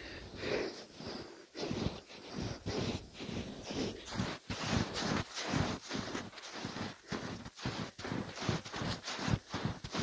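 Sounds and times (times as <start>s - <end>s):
footsteps in snow: 0.0s - 10.0s.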